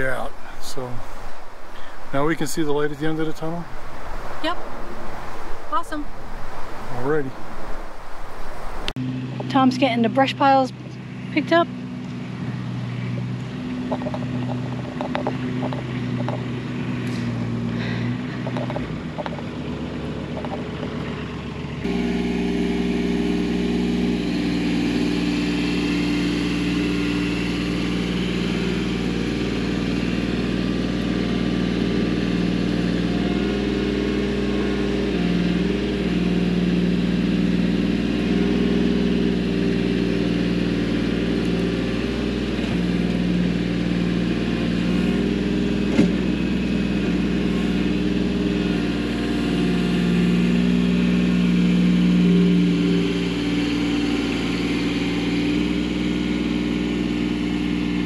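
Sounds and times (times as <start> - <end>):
earthmoving machine engine running: 1.7 - 5.9, 8.9 - 58.0.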